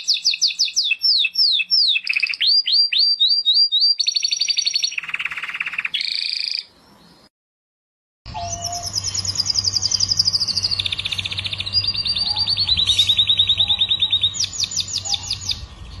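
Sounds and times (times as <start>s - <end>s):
canary singing trills: 0.0s - 7.3s, 8.3s - 16.0s.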